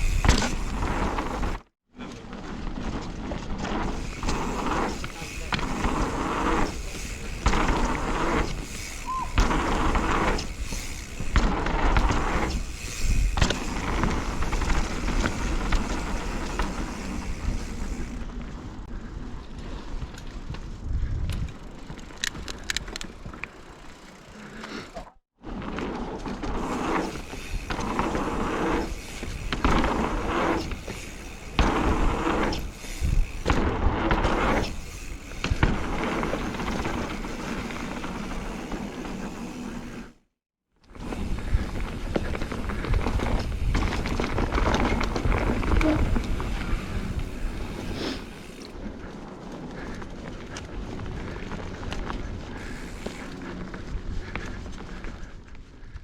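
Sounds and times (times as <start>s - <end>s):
bike rattling and knocking: 0.0s - 1.7s, 2.4s - 18.3s, 21.3s - 24.7s, 25.6s - 39.9s, 41.0s - 55.9s
bike tyres rolling over dirt: 0.0s - 40.2s, 40.8s - 56.0s.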